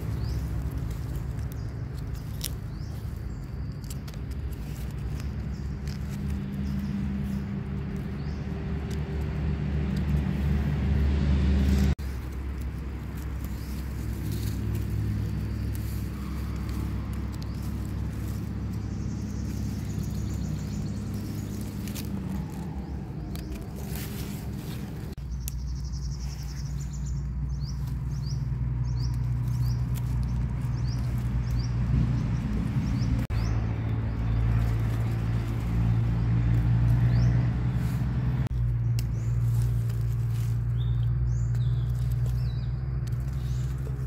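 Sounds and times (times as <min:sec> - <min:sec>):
small birds chirping: 0:00.0 - 0:10.8, 0:11.6 - 0:44.0.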